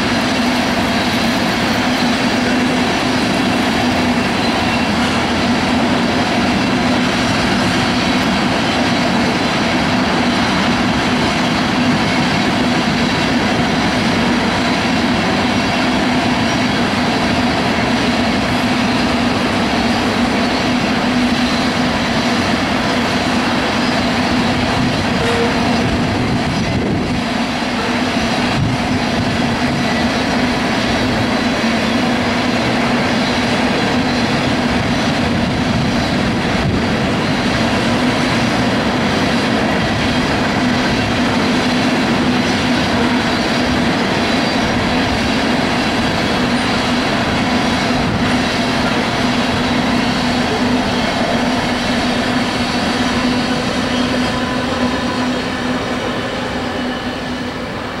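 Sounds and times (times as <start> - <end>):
train wheels clattering on rail: 0.0 - 58.0.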